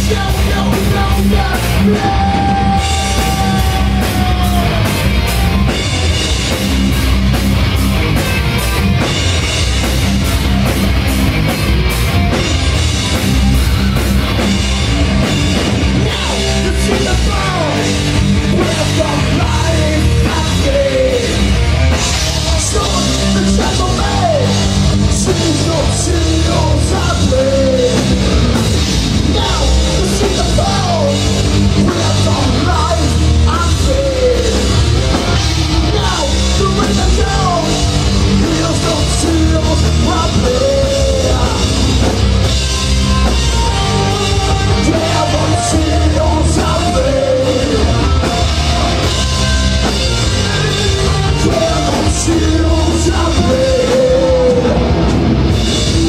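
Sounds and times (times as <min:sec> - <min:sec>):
vocalist singing: 0:00.0 - 0:05.8, 0:15.8 - 0:55.2
live metal band playing: 0:00.0 - 0:56.0.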